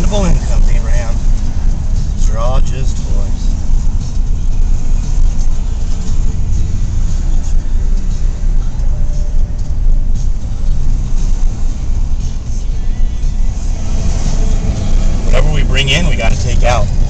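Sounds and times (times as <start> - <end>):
vehicle interior rumble: 0.0 - 17.0.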